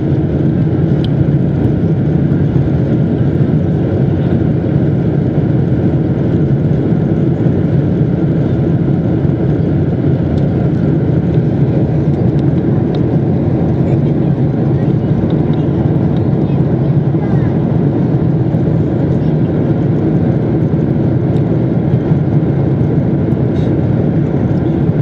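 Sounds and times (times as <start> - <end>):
jet engines droning: 0.0 - 25.0.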